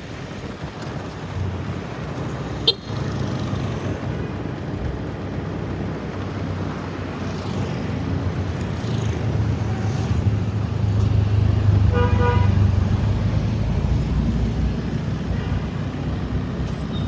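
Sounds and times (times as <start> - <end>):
road and air noise: 0.0 - 17.0.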